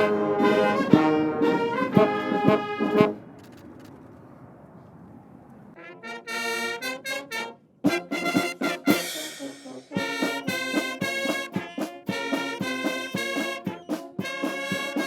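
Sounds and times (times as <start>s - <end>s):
brass music with percussive hits: 0.0s - 3.2s, 5.8s - 15.0s.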